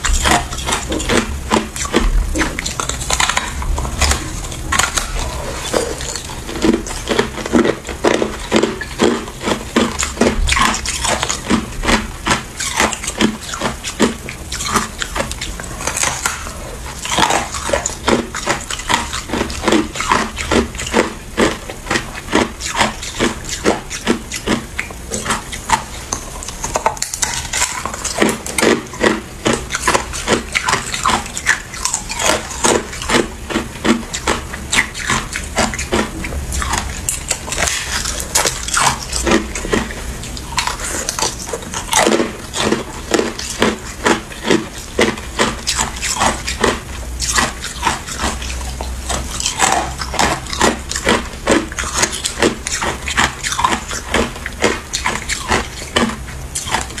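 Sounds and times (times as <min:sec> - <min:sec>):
chewing crushed ice crunches: 0:00.0 - 0:57.0.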